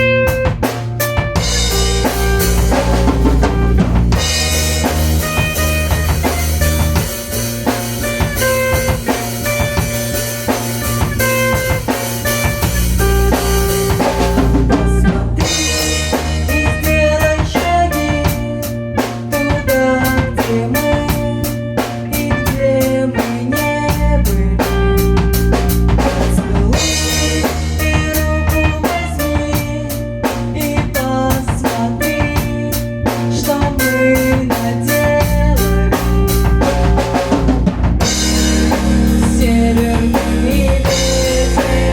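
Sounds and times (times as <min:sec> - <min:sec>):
drums steady beat: 0:00.0 - 0:41.9
instrumental rock music: 0:00.0 - 0:41.9.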